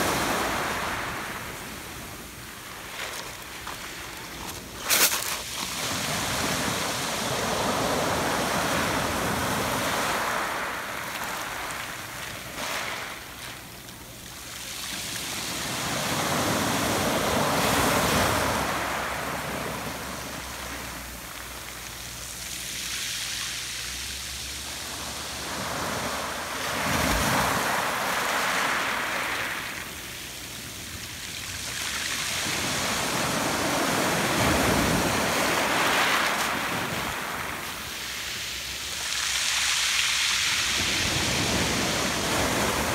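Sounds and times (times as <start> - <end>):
surf washing over pebbles: 0.0 - 42.9.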